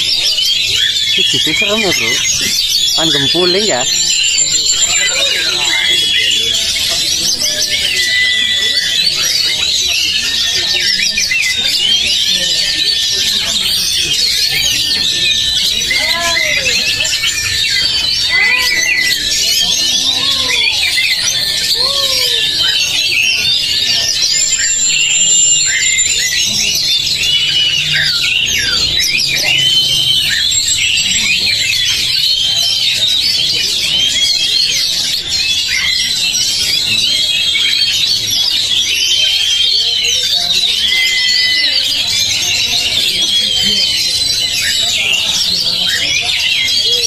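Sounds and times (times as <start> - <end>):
birds singing in chorus: 0.0 - 47.0.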